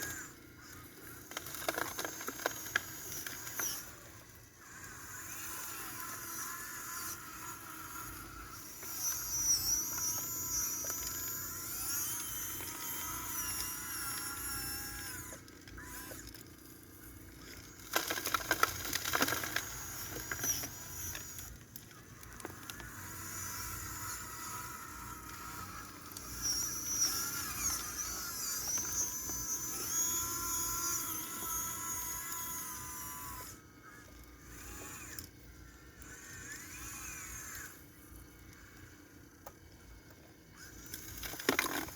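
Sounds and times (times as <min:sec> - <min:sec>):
small electric motors whining: 0:00.0 - 0:41.9.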